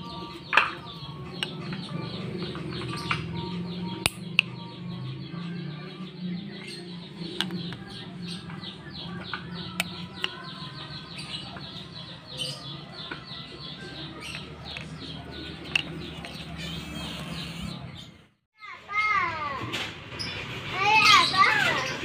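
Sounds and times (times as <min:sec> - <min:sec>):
birds chirping: 0:00.0 - 0:18.4.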